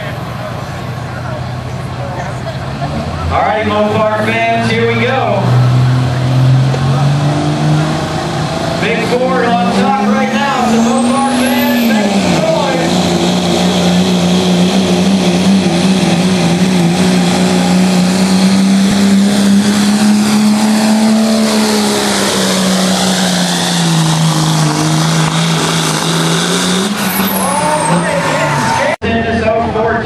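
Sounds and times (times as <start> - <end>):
pickup truck engine at high revs: 0.0 - 29.0.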